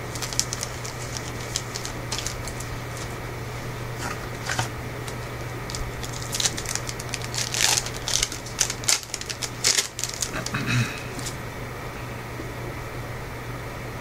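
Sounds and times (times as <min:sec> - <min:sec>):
wrapper and card rustling: 0:00.0 - 0:11.4
steady low hum: 0:00.0 - 0:14.0.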